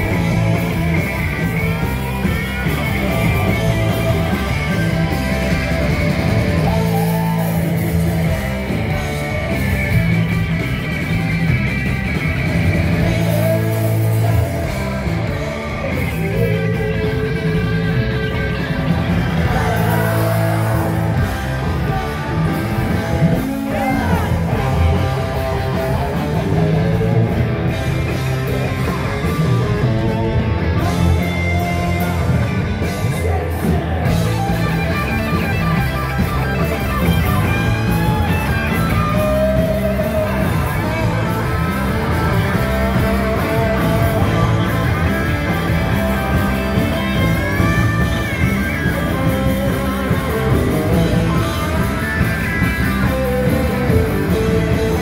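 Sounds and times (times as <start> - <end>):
drum kit: 0.0 - 55.0
loud electric guitars: 0.0 - 55.0.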